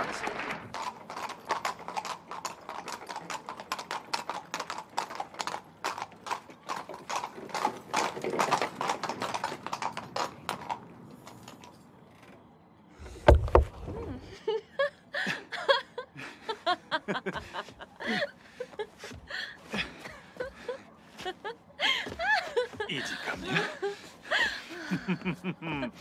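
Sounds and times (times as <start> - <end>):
horse hooves on cobblestones: 0.0 - 14.0, 17.0 - 26.0.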